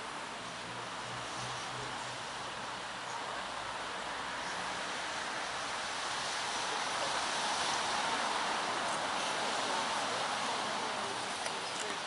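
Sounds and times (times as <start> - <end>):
wind rustling through trees: 0.0 - 12.0.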